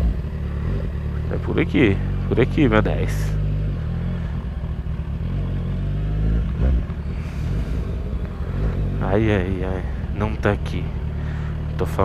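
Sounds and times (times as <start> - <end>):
motorcycle engine at low speed: 0.0 - 12.0.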